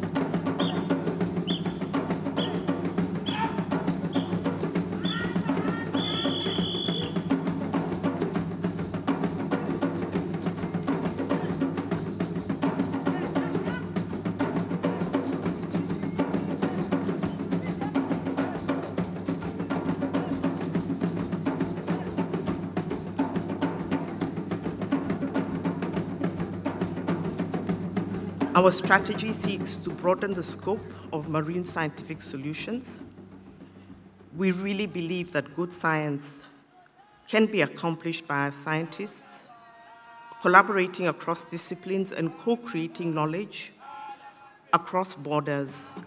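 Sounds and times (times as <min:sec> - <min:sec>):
drum and percussion music: 0:00.0 - 0:36.4, 0:37.4 - 0:46.0.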